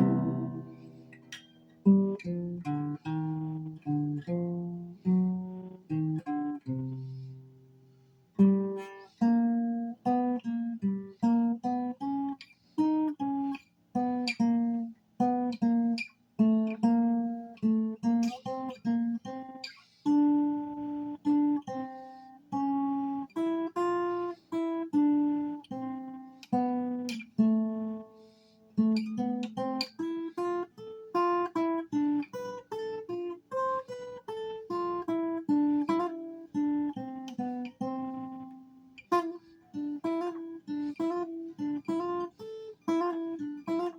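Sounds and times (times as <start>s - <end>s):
acoustic guitar playing: 0.0s - 43.9s.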